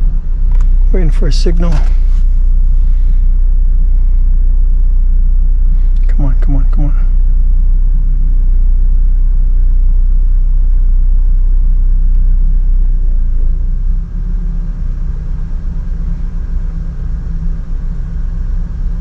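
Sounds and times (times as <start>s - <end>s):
low rumble with hum: 0.0s - 19.0s.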